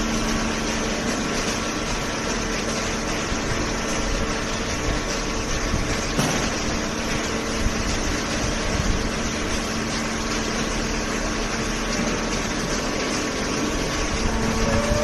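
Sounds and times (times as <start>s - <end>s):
hydraulic pump and motor running: 0.0s - 15.0s.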